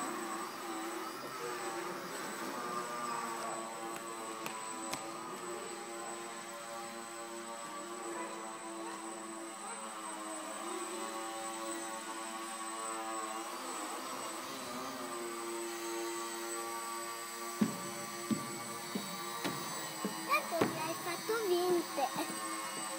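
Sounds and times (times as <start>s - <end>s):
electric model aircraft motors humming: 0.0s - 22.9s.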